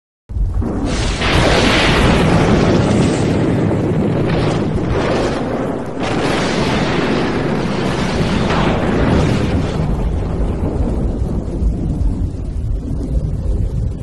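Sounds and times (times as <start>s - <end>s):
thunder rumbling: 0.3s - 14.0s
wind on microphone: 0.3s - 14.0s.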